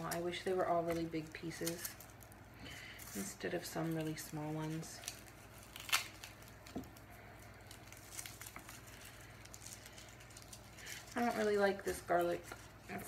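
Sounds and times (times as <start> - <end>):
garlic peel crinkling: 0.0 - 13.0.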